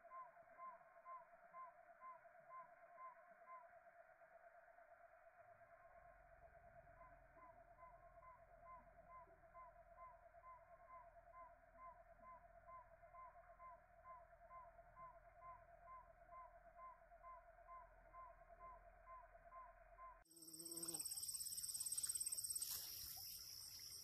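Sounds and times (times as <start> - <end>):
slowed wavering insect chirps: 0.0 - 24.0.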